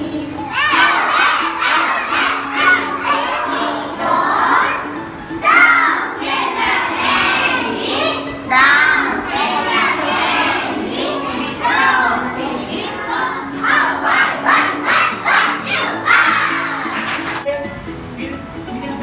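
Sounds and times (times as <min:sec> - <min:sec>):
children reciting in chorus: 0:00.5 - 0:17.2.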